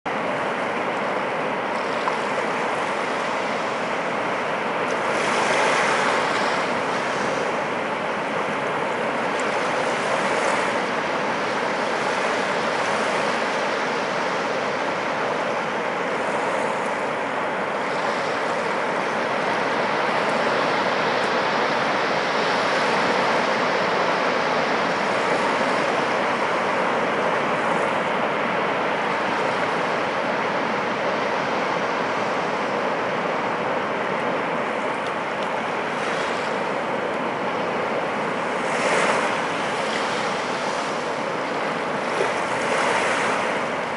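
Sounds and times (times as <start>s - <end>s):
small waves washing on beach: 0.1s - 43.9s.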